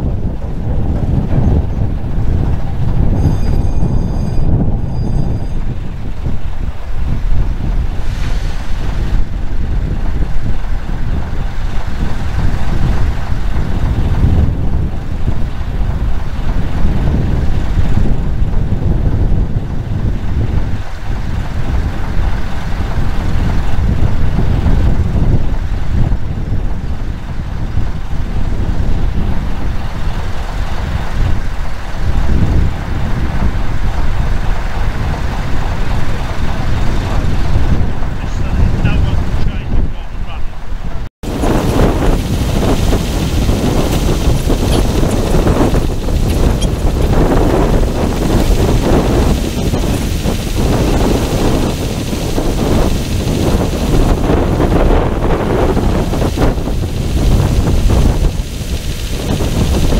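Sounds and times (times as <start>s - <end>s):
diesel locomotive running: 0.0s - 59.9s
wind on microphone: 0.0s - 59.9s.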